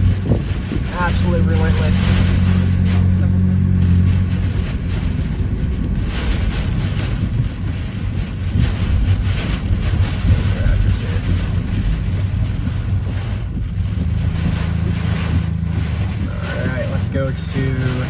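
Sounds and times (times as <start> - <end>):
engine and tyres rumbling: 0.0 - 18.0
wind gusts buffeting vehicle: 0.0 - 18.0.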